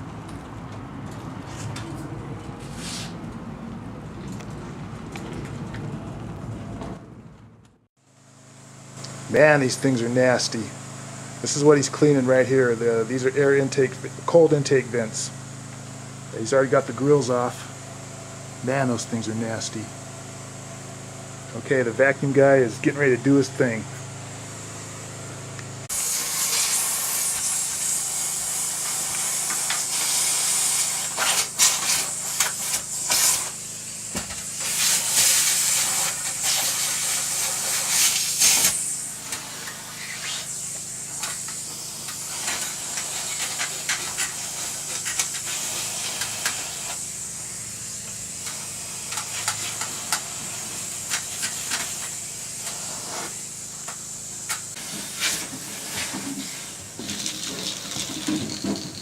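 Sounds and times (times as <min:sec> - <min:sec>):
vacuum rushing hiss: 0:08.4 - 0:59.0.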